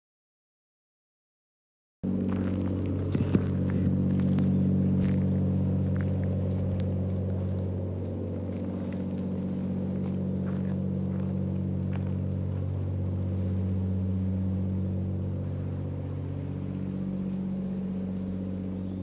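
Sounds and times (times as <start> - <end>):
low mechanical hum: 2.0 - 19.0.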